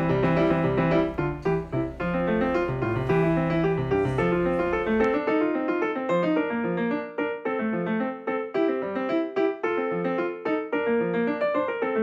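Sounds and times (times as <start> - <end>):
lively piano piece: 0.0 - 12.0.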